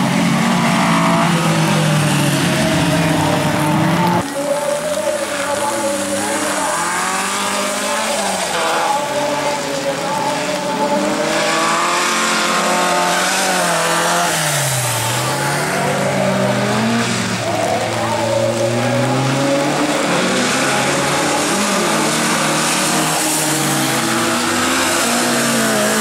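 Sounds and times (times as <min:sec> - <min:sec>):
race car engines revving: 0:00.0 - 0:26.0.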